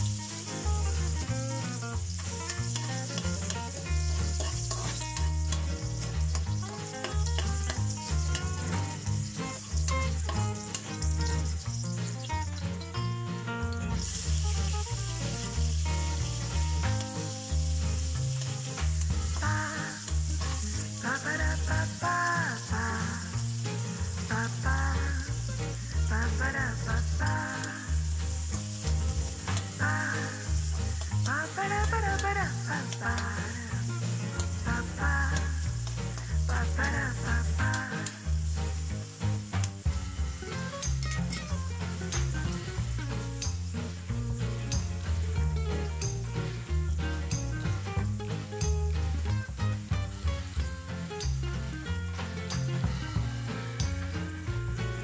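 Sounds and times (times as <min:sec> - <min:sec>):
background music with bass: 0:00.0 - 0:55.0
food sizzling in hot oil: 0:00.0 - 0:55.0
spatula scraping wok: 0:00.0 - 0:55.0.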